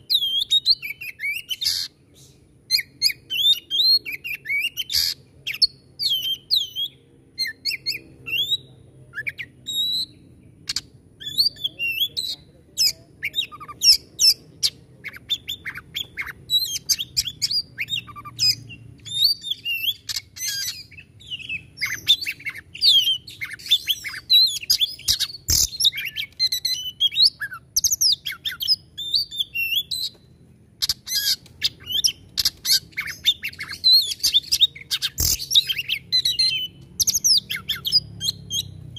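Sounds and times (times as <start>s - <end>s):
songbird singing whistled phrases: 0.0s - 38.9s.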